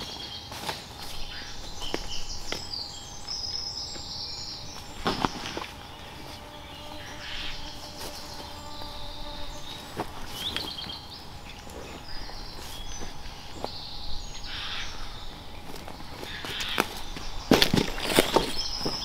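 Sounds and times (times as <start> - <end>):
birds chirping and whistling: 0.0 - 19.0
faint steady hum: 0.0 - 19.0.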